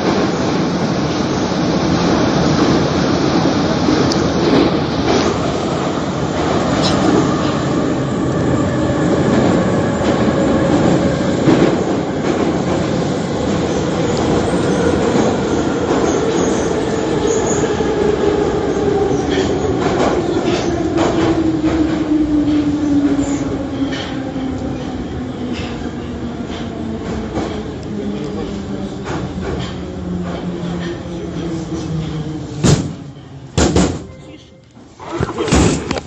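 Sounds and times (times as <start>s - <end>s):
metro train rumbling: 0.0s - 36.0s.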